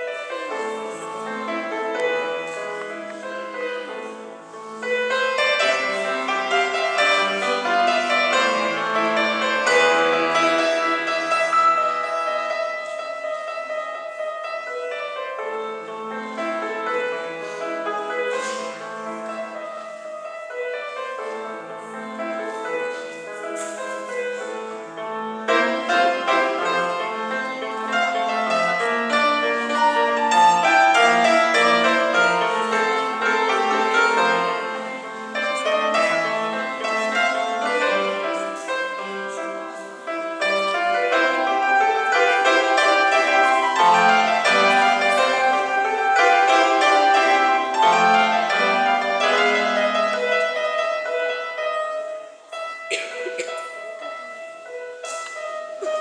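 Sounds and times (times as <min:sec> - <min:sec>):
grand piano playing: 0:00.0 - 0:56.0.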